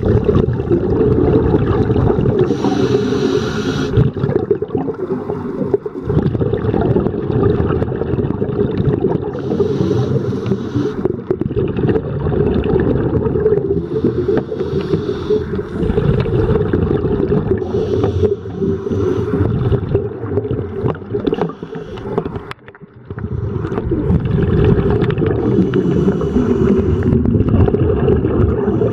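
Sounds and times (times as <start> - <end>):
scuba bubbles hissing: 0.0 - 22.5, 23.1 - 28.9
muffled underwater rumble: 0.0 - 28.9.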